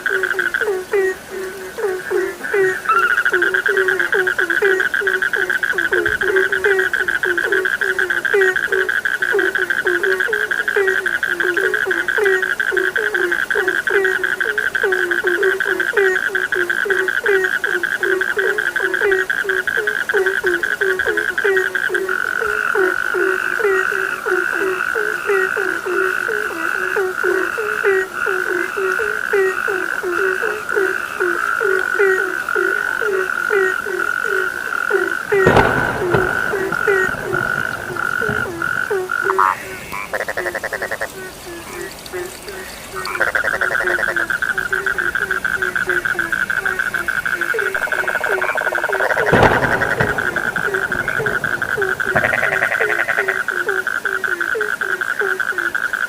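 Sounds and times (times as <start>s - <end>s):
frogs croaking: 0.0s - 56.0s.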